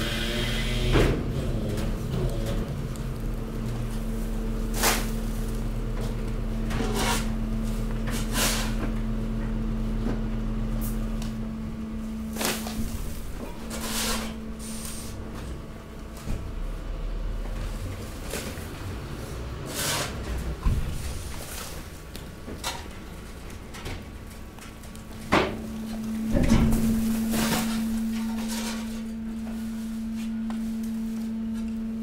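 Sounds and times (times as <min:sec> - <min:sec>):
hydraulic compactor humming: 0:00.0 - 0:18.9, 0:22.9 - 0:32.0.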